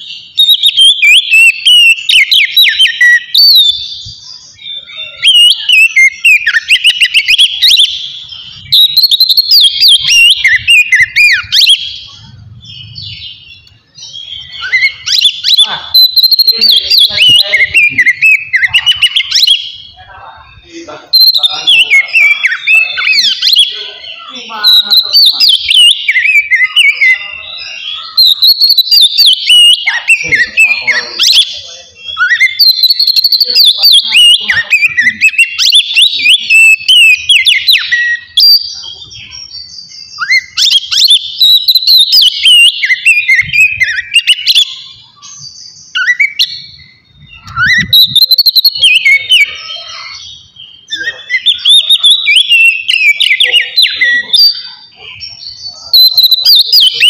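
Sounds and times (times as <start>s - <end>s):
magpie-robin singing: 0.0s - 57.0s.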